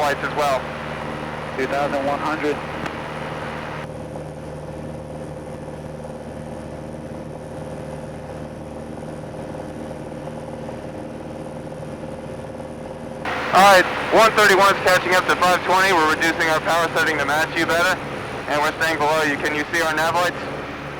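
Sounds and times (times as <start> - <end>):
light aircraft engine droning: 0.0 - 20.9.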